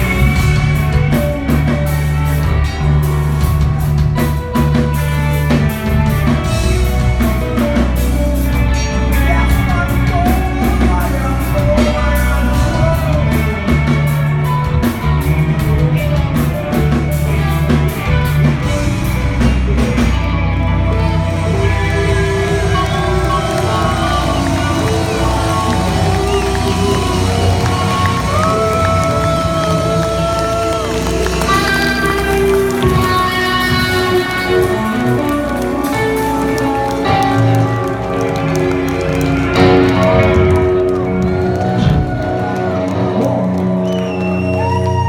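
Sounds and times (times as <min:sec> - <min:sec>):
person singing: 0:00.0 - 0:18.6, 0:20.6 - 0:45.0
live rock band playing: 0:00.0 - 0:45.0.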